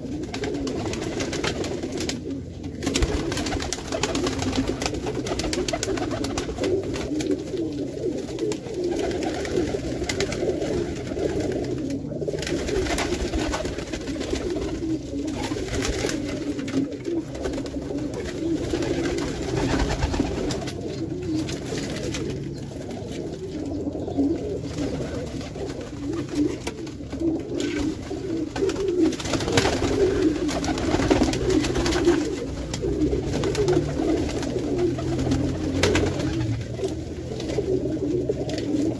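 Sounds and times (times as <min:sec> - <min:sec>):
pigeons cooing: 0:00.0 - 0:38.9
wings flapping: 0:00.0 - 0:38.9.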